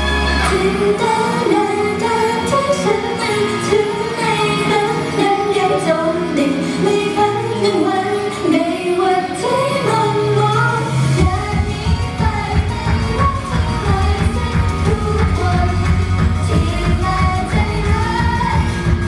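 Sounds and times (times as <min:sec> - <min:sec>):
pop backing track: 0:00.0 - 0:19.0
woman singing: 0:00.0 - 0:19.0.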